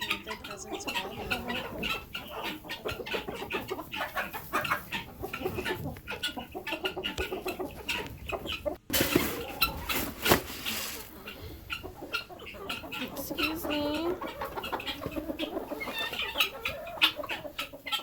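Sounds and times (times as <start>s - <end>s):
chickens and guinea fowl calling: 0.0s - 18.0s.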